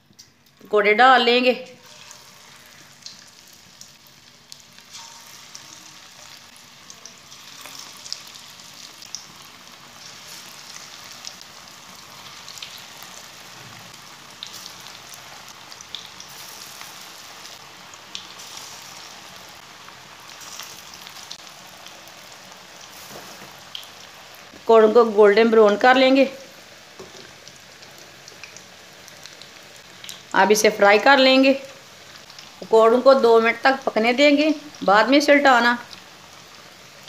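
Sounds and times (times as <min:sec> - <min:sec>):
deep-frying sizzle with pops: 0:00.0 - 0:00.7, 0:01.6 - 0:37.0.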